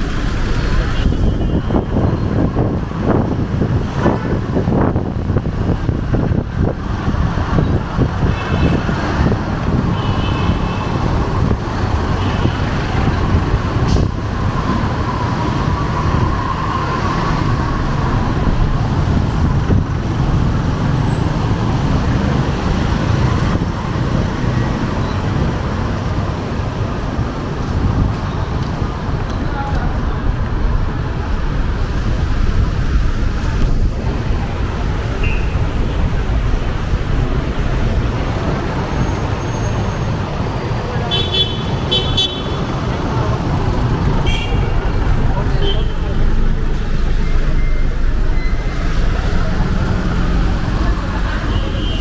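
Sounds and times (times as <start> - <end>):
car engines passing: 0.0 - 52.0.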